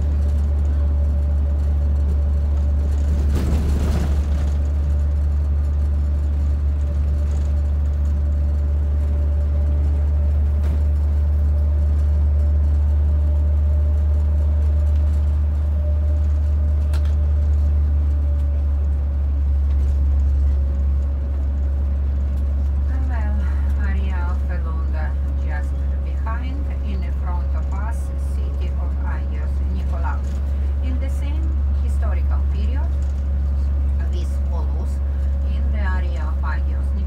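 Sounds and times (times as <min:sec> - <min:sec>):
bus engine and road drone: 0:00.0 - 0:37.0.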